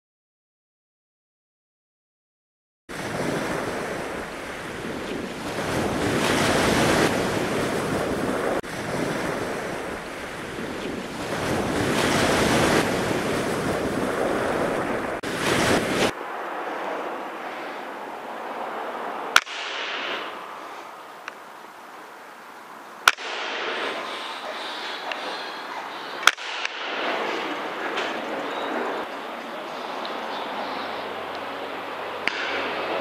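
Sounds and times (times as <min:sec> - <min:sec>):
sea waves: 0:02.9 - 0:33.0
wind buffeting microphone: 0:02.9 - 0:33.0.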